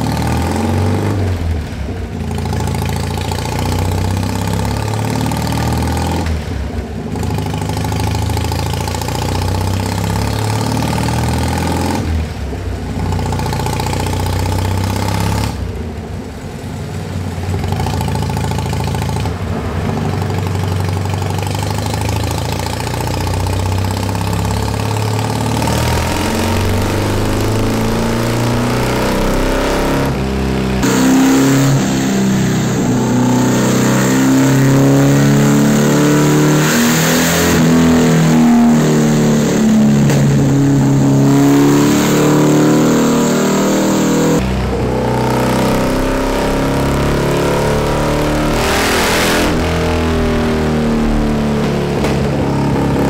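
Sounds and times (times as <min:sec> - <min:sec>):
motorcycle engine revving: 0:00.0 - 0:16.0, 0:17.2 - 0:53.0.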